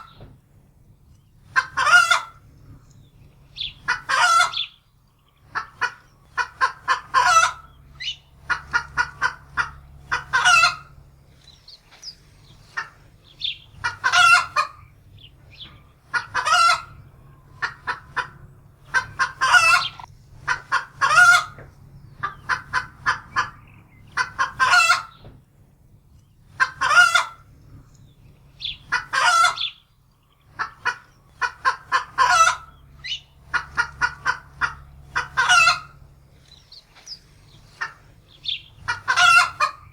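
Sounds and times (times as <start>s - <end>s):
hen cackling: 1.4s - 2.4s, 3.6s - 4.8s, 5.4s - 25.2s, 26.5s - 27.5s, 28.5s - 39.9s.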